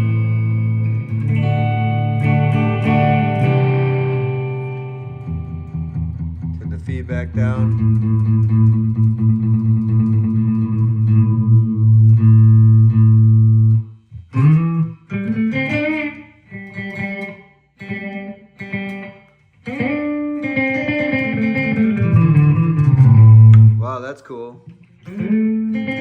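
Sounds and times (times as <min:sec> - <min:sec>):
electric guitar with delay: 0:00.0 - 0:23.9, 0:24.7 - 0:26.0.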